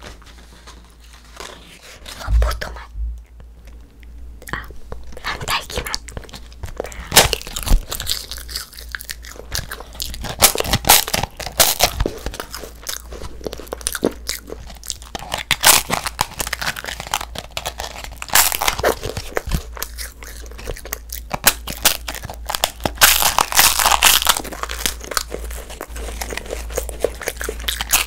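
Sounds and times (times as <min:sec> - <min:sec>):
crisp paper being bitten and chewed: 0:04.5 - 0:28.0.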